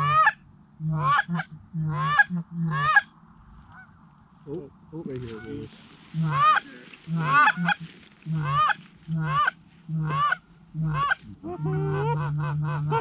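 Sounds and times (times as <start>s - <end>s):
goose honking: 0.0s - 4.0s, 5.2s - 13.0s.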